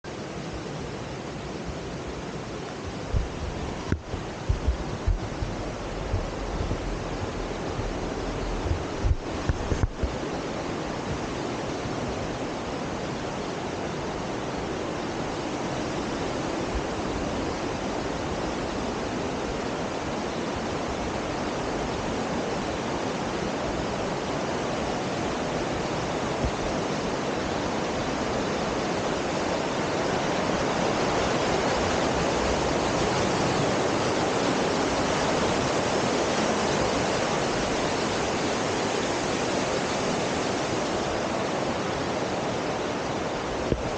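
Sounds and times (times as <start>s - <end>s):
heavy rain in forest: 0.1s - 43.9s.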